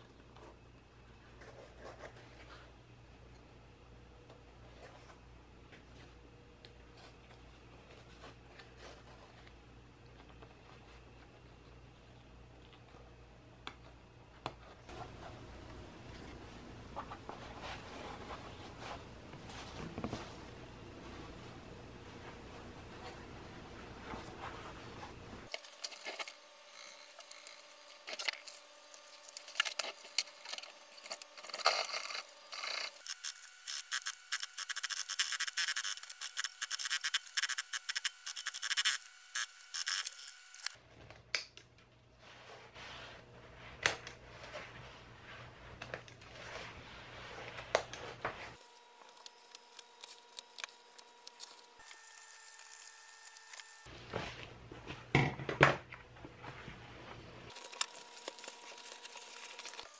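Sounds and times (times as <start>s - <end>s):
background hum: 0.0s - 59.9s.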